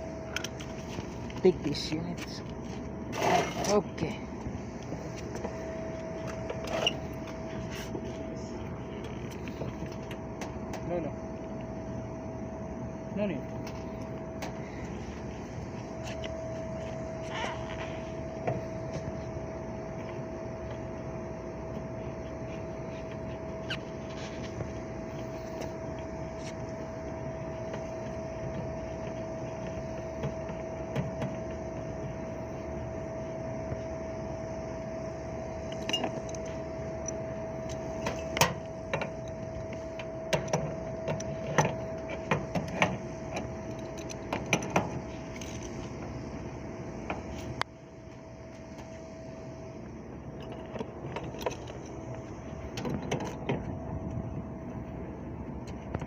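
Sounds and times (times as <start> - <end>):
machine hum: 0.0 - 56.0
thin whining tone: 3.1 - 56.0.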